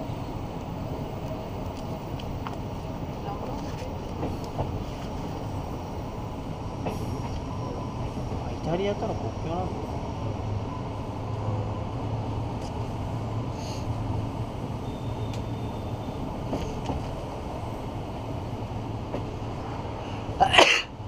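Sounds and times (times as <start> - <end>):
train rumble with low hum: 0.0 - 21.0.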